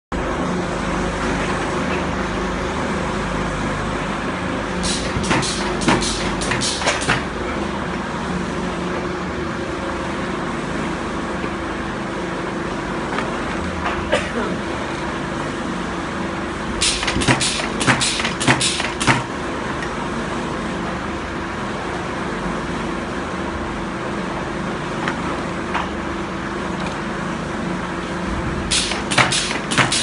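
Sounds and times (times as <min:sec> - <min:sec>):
machine hum: 0:00.1 - 0:30.0.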